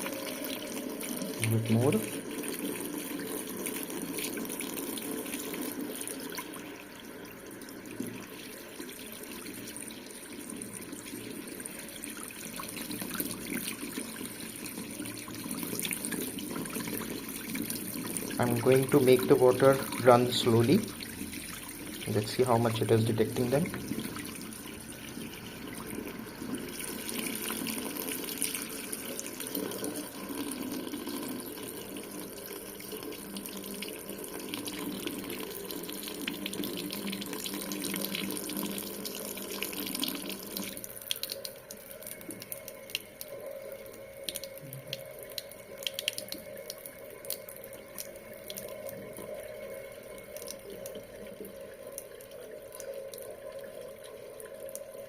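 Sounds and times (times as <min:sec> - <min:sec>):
faucet running into sink: 0:00.0 - 0:55.0
water dripping: 0:00.0 - 0:55.0.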